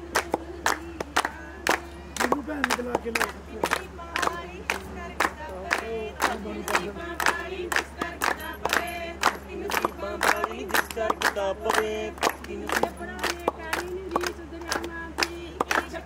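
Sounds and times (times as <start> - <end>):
group singing and calling out: 0.0 - 16.0
rhythmic hand clapping: 0.0 - 16.0.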